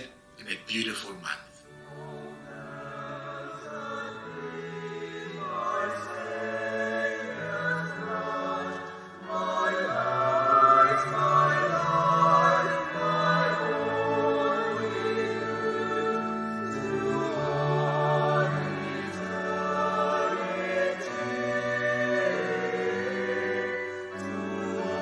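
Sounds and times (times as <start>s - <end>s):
choir singing long held notes: 0.0s - 25.0s.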